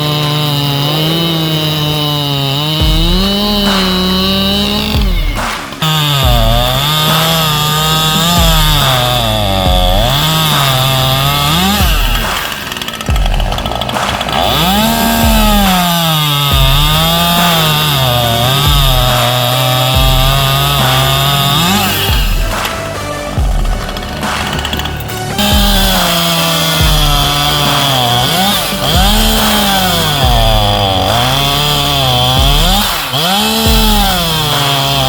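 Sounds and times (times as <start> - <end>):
chainsaw revving: 0.0 - 35.0.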